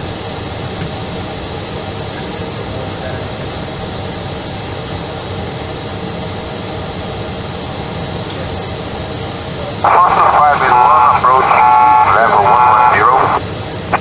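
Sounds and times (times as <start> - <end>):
airliner engine and airflow noise: 0.0 - 14.0.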